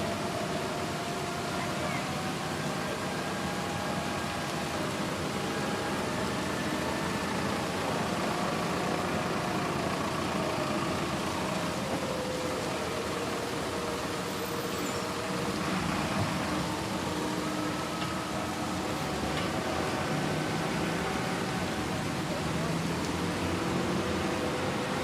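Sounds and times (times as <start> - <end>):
city traffic noise: 0.0 - 25.0
steady rain: 0.0 - 25.0.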